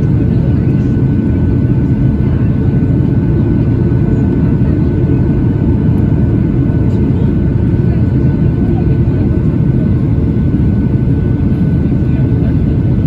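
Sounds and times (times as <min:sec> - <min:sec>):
airplane cabin roar: 0:00.0 - 0:13.0.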